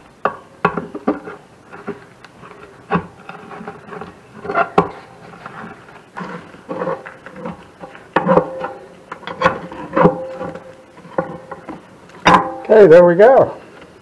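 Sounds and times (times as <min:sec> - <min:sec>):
rope gasket scraping metal: 0:00.2 - 0:14.0.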